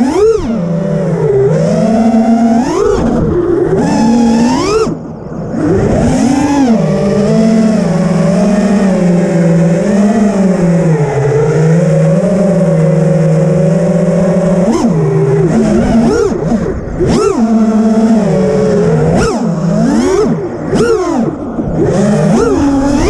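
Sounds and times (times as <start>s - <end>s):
quadcopter motors buzzing whine: 0.0s - 23.0s.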